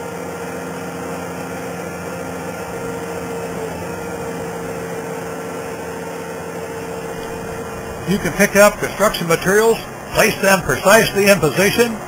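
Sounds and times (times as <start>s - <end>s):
loader engine humming: 0.0s - 12.0s.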